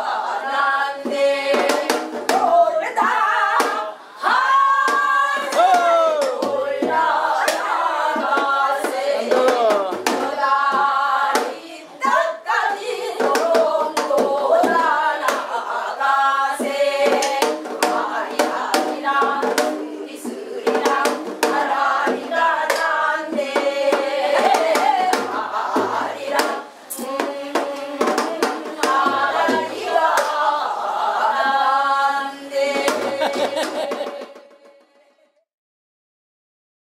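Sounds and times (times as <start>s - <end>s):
women singing folk song: 0.0s - 35.3s.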